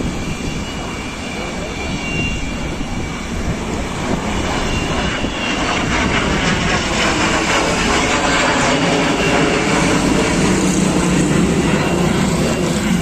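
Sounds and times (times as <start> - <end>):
jet rumble with high whine: 0.0 - 13.0.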